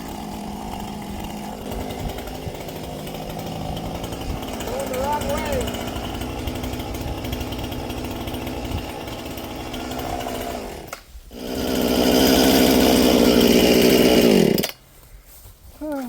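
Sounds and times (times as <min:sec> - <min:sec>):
chainsaw running: 0:00.0 - 0:14.9.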